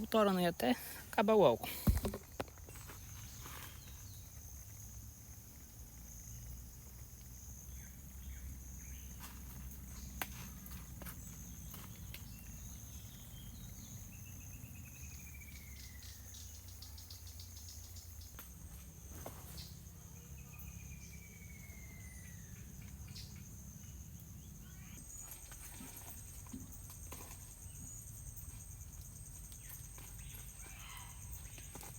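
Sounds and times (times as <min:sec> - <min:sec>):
higher insect: 0:00.0 - 0:31.9
insects chirring: 0:00.0 - 0:31.9.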